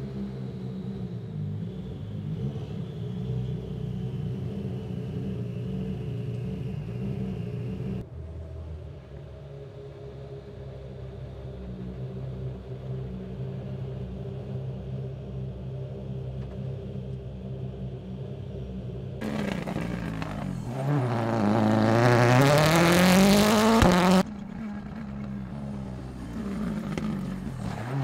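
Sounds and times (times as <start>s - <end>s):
rally car engine rumbling: 0.0s - 28.0s.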